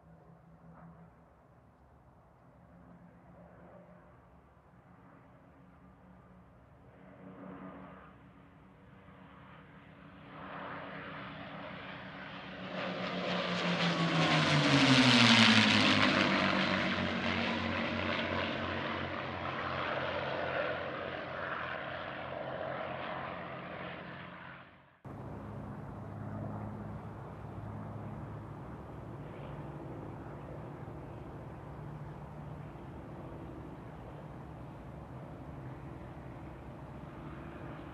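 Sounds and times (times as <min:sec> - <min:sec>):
propeller aircraft engines droning: 0:00.0 - 0:37.9.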